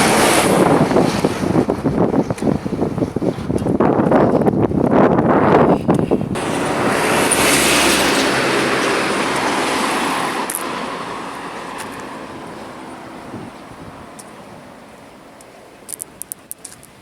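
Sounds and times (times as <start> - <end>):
vehicle passing on highway: 0.0 - 3.3, 5.1 - 16.6.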